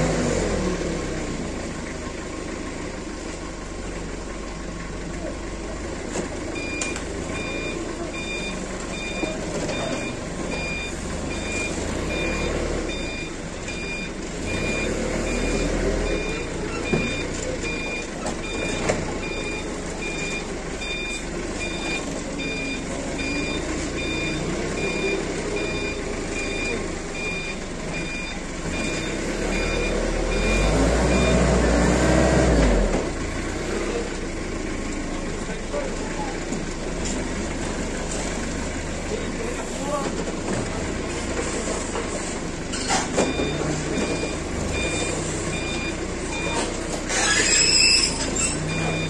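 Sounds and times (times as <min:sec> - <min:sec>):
forklift engine running: 0:00.0 - 0:49.0
forklift warning beeps: 0:06.2 - 0:35.0, 0:37.4 - 0:49.0.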